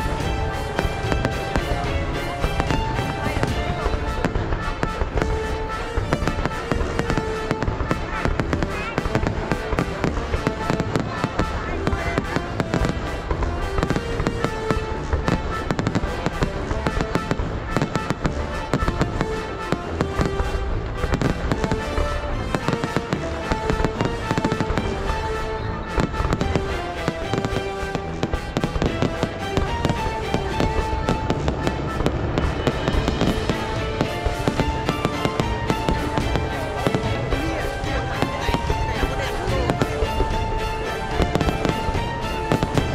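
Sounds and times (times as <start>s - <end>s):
fireworks bangs and crackles: 0.0s - 42.9s
music playing: 0.0s - 42.9s.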